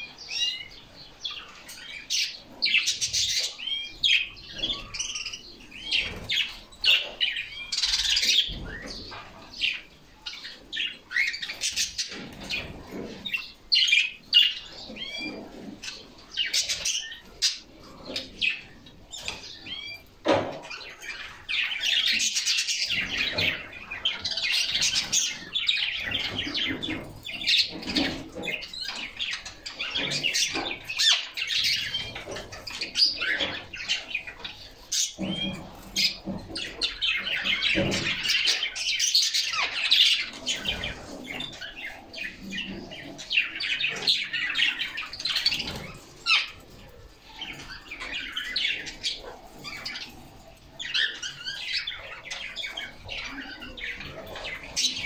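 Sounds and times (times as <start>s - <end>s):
canaries chirping and twittering: 0.0s - 55.0s.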